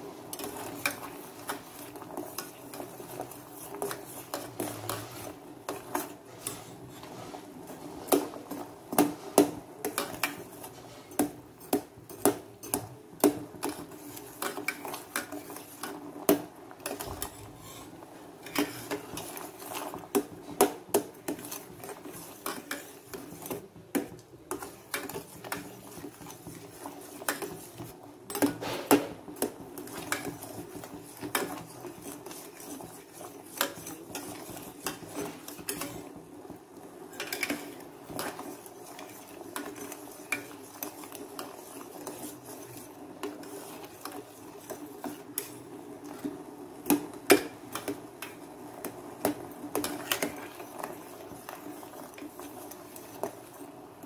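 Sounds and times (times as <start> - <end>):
spatula scraping a pan: 0.3 - 12.9, 13.6 - 16.1, 16.8 - 36.2, 37.1 - 53.8.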